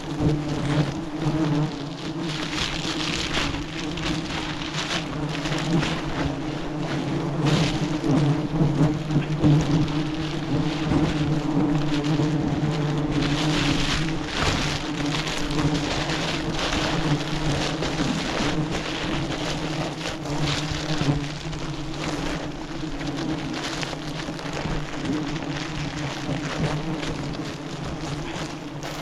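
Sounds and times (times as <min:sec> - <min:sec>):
bees buzzing: 0:00.0 - 0:29.0
crackling and rustling: 0:00.0 - 0:29.0.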